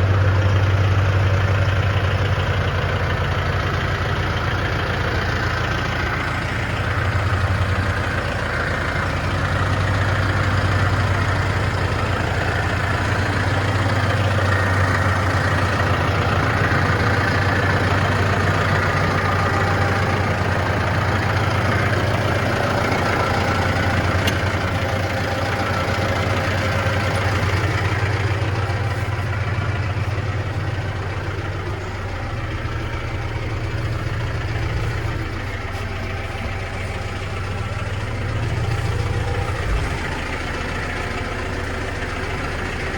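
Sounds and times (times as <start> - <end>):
diesel tractor engine idling: 0.0 - 42.9.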